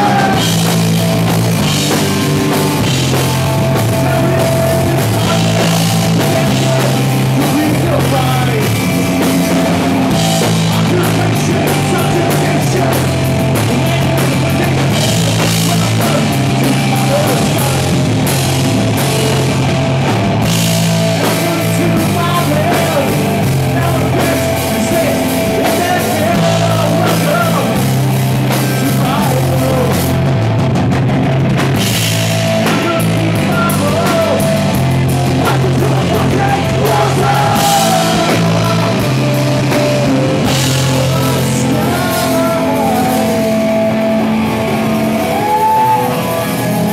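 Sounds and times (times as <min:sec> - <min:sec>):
bass guitar: 0:00.0 - 0:46.9
drum kit: 0:00.0 - 0:46.9
electric guitar: 0:00.0 - 0:46.9.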